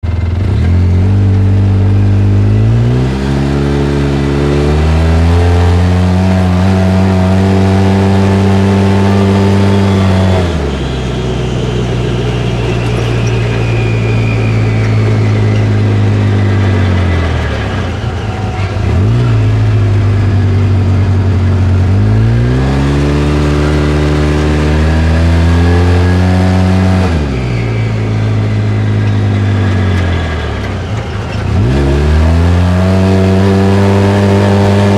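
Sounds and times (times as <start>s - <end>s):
off-road vehicle engine revving: 0.0s - 34.9s.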